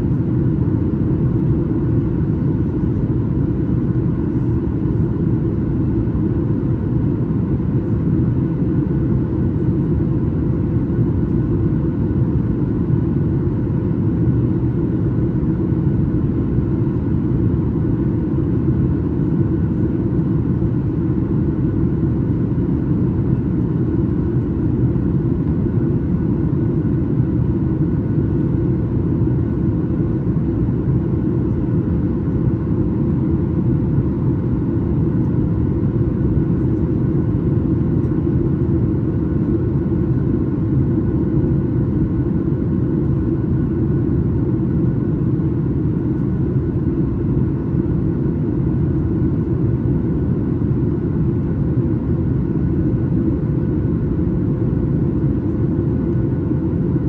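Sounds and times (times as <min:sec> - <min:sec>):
constant hum: 0:00.0 - 0:57.0
jet engine cabin drone: 0:00.0 - 0:57.0.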